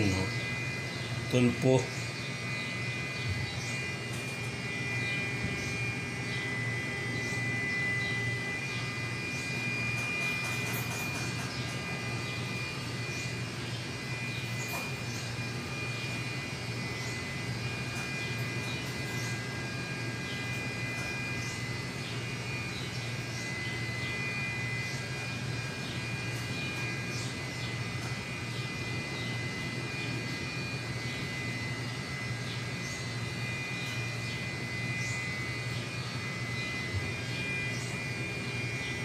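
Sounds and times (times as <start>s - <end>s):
high whining tones: 0.0s - 39.0s
machine hum: 0.0s - 39.0s.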